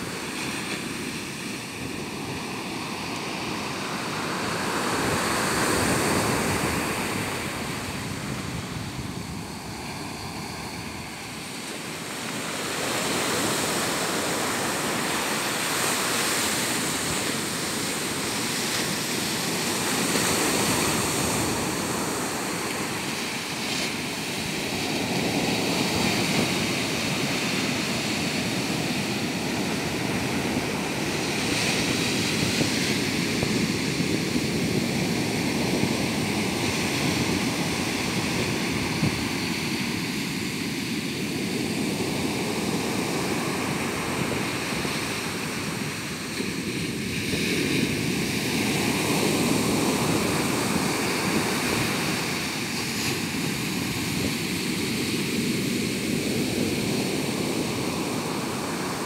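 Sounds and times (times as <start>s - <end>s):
waves breaking on a beach: 0.0s - 59.0s.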